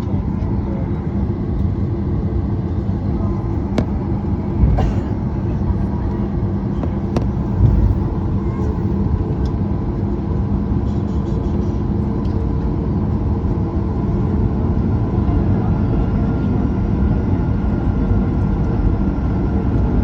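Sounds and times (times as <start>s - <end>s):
jet engines idling: 0.0s - 20.0s.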